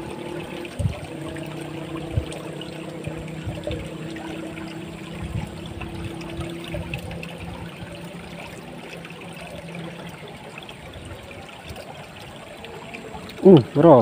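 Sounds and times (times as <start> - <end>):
water rushing through a ditch: 0.0 - 14.0.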